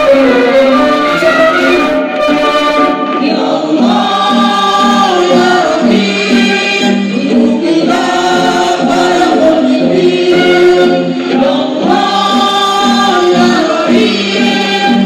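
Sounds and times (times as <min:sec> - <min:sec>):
men's choir singing devotional song: 0:02.7 - 0:15.0.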